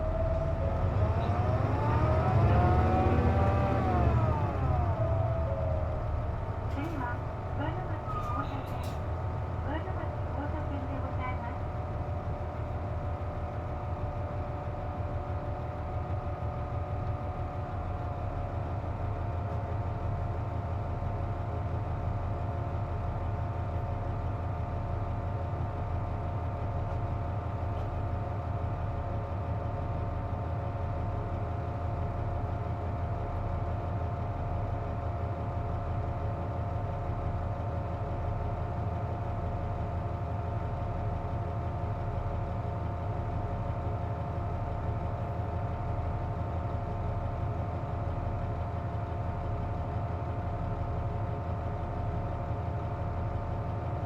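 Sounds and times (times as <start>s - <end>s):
bus engine idling: 0.0s - 54.0s.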